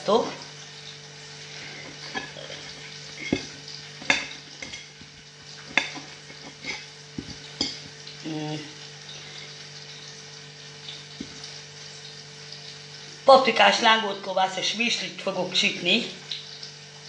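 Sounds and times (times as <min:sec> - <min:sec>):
steady hiss and low hum: 0:00.0 - 0:17.0.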